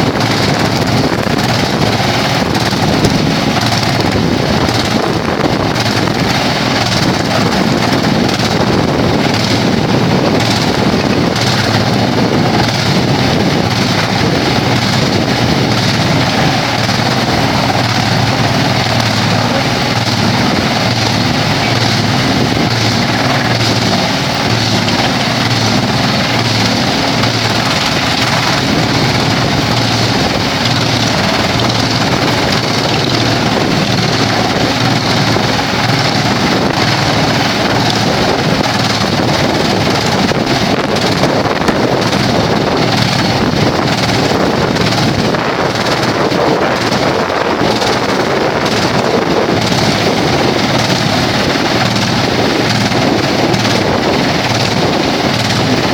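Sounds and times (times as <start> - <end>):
wood chipper running: 0.0 - 55.9.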